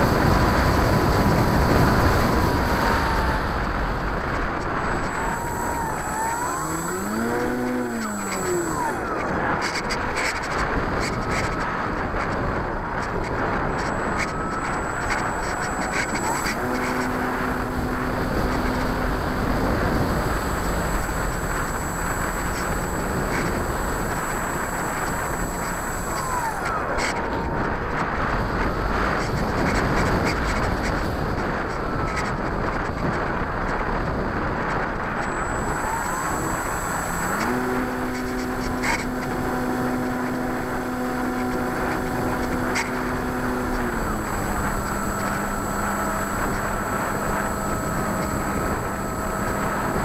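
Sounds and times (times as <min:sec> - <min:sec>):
model airplane motor and propeller: 0:00.0 - 0:50.0
wind rushing over camera: 0:00.0 - 0:50.0.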